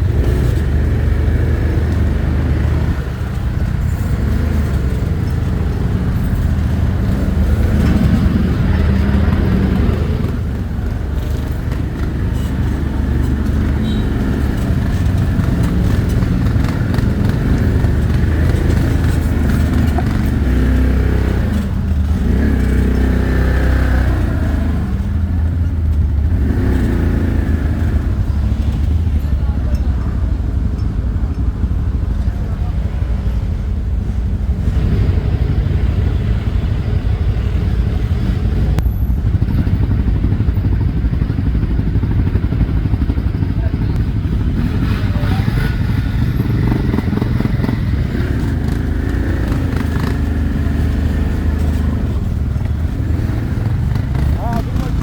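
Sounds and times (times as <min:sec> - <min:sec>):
atv engine revving: 0:00.0 - 0:30.7, 0:31.4 - 0:55.0.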